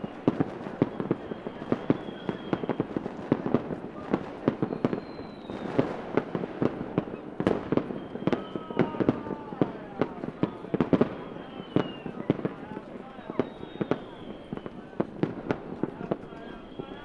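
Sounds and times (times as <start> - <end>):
firework whistles: 0.0 - 17.0
fireworks popping and cracking: 0.0 - 17.0.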